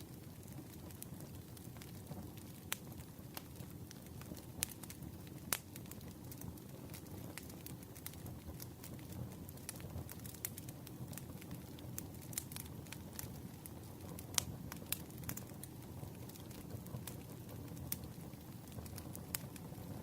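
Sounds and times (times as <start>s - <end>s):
burning wood popping and snapping: 0.4s - 19.9s.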